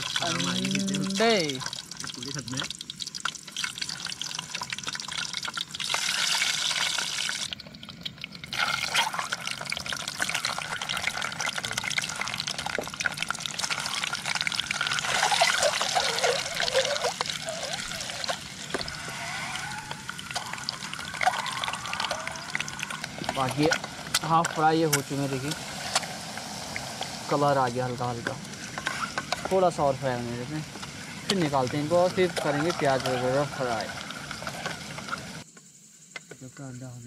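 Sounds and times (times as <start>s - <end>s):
eggs sizzling in hot oil: 0.0s - 35.5s.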